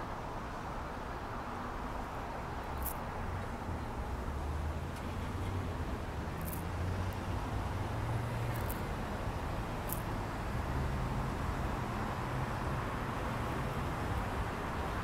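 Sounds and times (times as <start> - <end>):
bus engines droning: 0.0 - 15.0.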